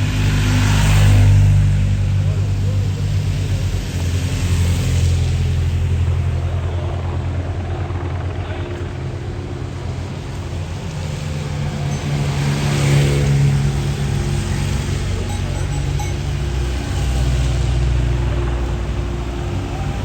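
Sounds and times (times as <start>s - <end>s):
vehicle engines running: 0.0s - 20.0s
vehicle passing: 0.0s - 20.0s.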